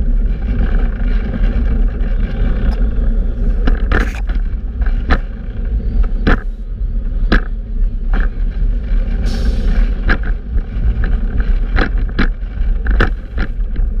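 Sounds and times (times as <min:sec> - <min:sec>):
bicycle tyre rumble: 0:00.0 - 0:14.0
wind on microphone: 0:00.0 - 0:14.0.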